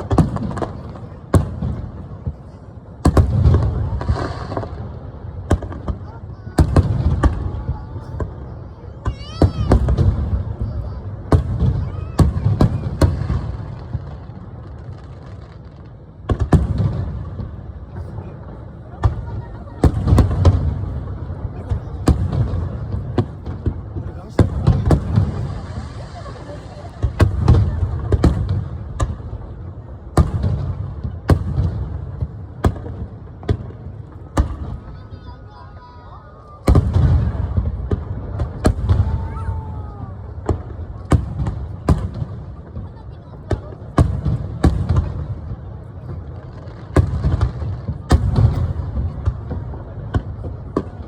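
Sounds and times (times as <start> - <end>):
fireworks booming: 0.0 - 51.0.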